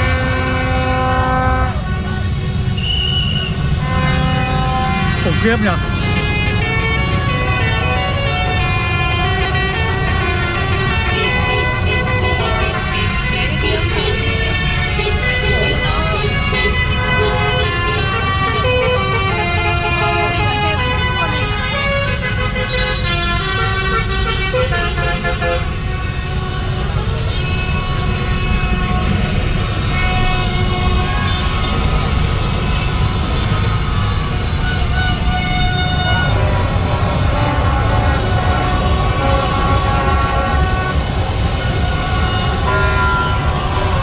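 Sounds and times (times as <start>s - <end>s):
many horns honking: 0.0s - 44.0s
street traffic rumble: 0.0s - 44.0s.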